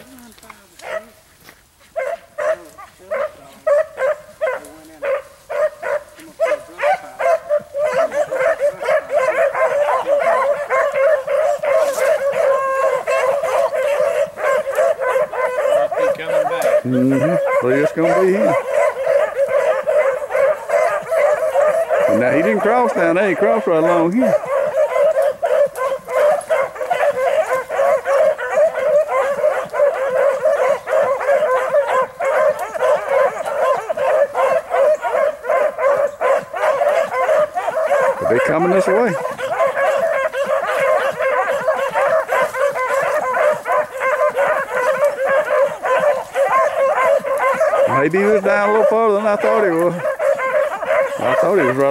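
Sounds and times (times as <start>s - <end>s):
dogs baying: 0.0s - 51.9s
dog howling: 2.0s - 51.9s.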